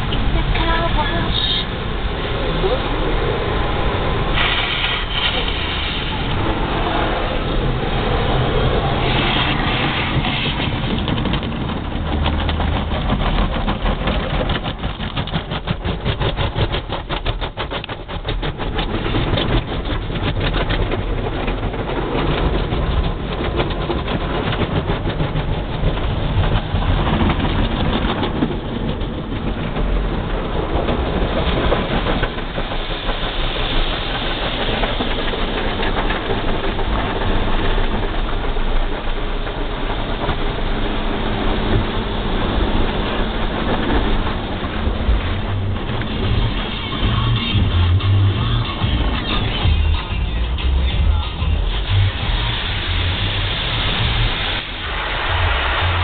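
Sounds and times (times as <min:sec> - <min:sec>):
car wash machinery spraying: 0:00.0 - 0:56.0
fast flapping rhythm: 0:09.0 - 0:54.7.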